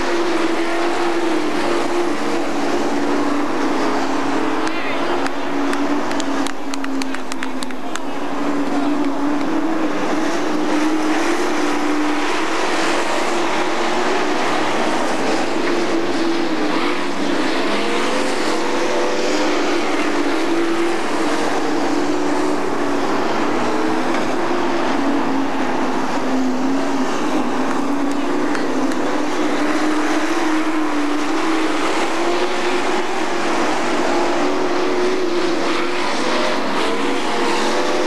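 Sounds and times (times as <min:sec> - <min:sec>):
race car engines droning: 0:00.0 - 0:38.0.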